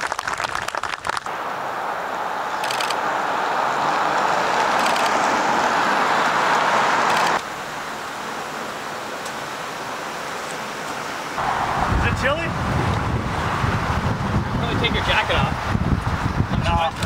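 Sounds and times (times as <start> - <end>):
cars passing on asphalt road: 0.1 - 17.0.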